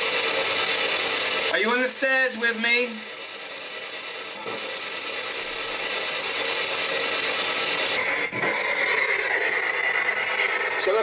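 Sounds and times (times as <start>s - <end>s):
radio static hiss: 0.2s - 11.0s.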